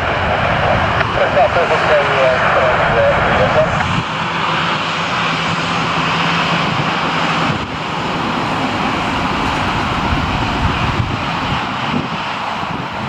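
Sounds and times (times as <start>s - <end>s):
airliner engines rushing: 0.0s - 13.0s.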